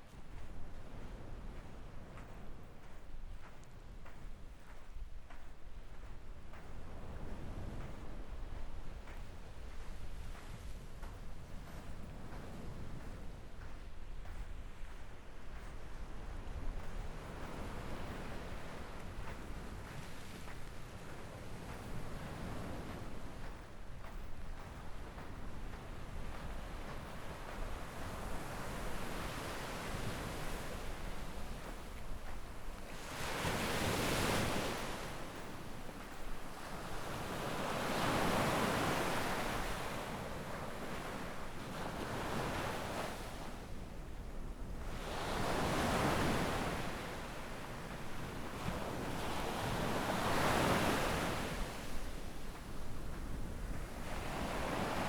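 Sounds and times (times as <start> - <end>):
wind on microphone: 0.0 - 55.0
small waves washing on shore: 6.8 - 55.0.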